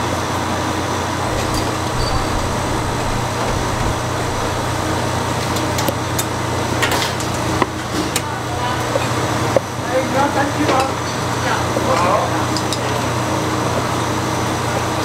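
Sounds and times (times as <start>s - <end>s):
busy street food stall din: 0.0s - 15.0s.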